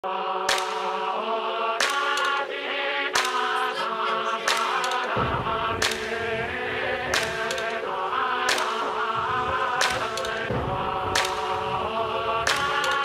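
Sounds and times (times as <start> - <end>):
choir-like vocal chords: 0.0 - 13.0.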